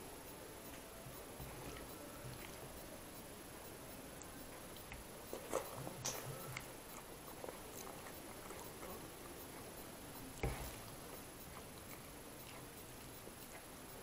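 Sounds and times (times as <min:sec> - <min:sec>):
quiet chewing: 0:00.6 - 0:14.0.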